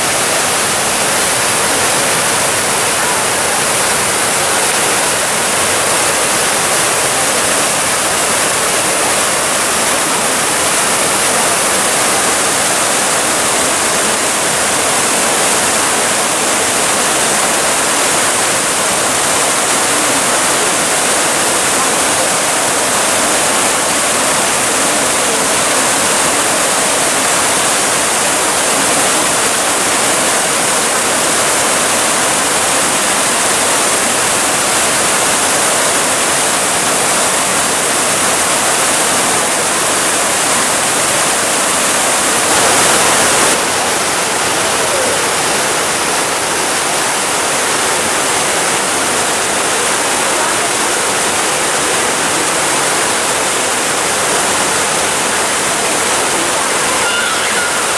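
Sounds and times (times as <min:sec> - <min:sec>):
fountain water splashing: 0:00.0 - 0:57.9.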